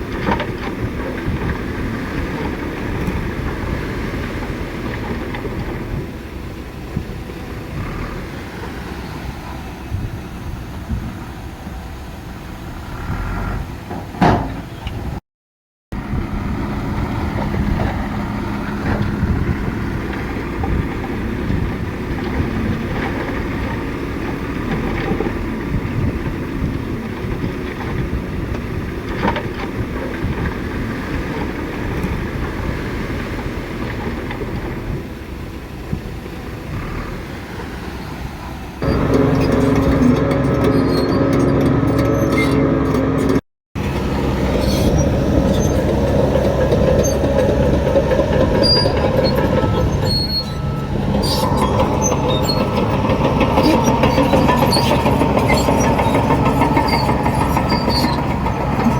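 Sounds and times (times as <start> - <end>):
heavy machinery engine drone: 0.0 - 15.2, 15.9 - 58.9.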